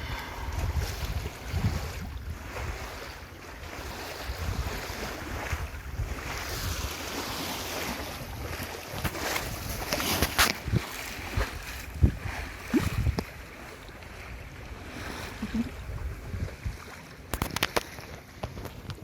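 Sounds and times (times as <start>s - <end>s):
wind buffeting microphone: 0.0s - 17.6s
water splashing along hull: 0.0s - 19.0s.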